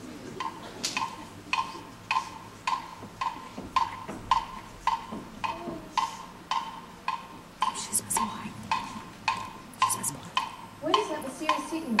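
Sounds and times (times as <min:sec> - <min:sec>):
timer ticking: 0:00.4 - 0:12.0.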